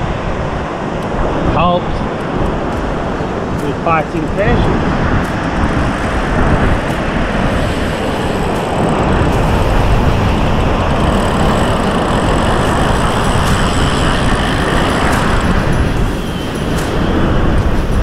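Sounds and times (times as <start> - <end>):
wind rushing: 0.0 - 18.0.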